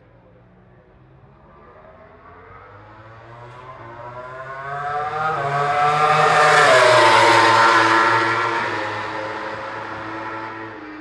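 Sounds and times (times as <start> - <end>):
racing motorcycle passing at high revs: 1.3 - 11.0.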